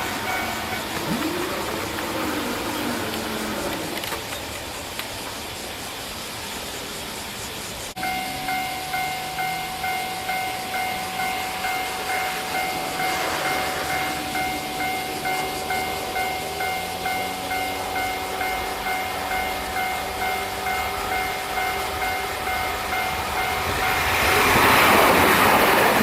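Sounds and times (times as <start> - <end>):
level crossing alarm ringing: 0.0 - 4.8, 8.0 - 26.0
steady rushing noise: 0.0 - 26.0.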